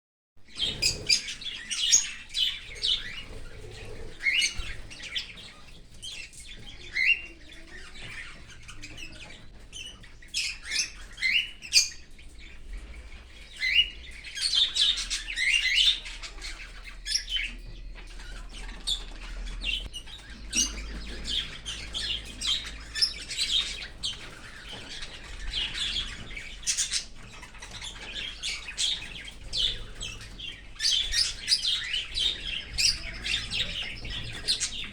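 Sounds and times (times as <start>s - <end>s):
cockatiels chirping and squawking: 0.5s - 34.9s.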